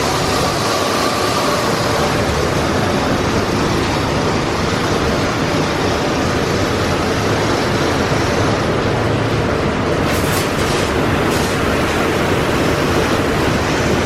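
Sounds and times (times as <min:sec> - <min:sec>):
car wash equipment rushing: 0:00.0 - 0:14.0.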